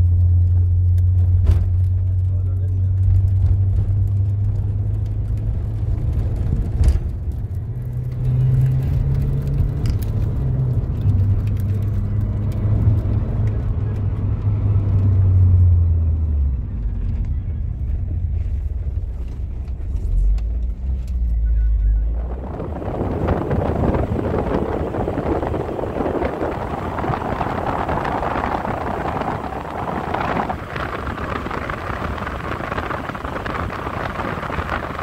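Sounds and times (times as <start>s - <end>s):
road noise: 0.0s - 35.0s
vehicle engine humming: 0.0s - 35.0s.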